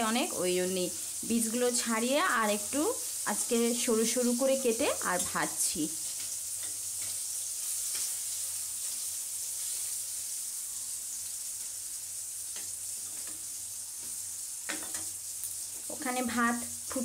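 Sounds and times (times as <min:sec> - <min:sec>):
gourd slices sizzling in oil: 0:00.0 - 0:17.0.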